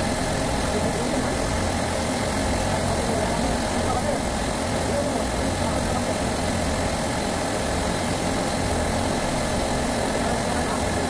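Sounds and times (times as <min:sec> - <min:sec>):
refrigeration compressors droning: 0:00.0 - 0:11.0
torch flame hissing: 0:00.0 - 0:11.0.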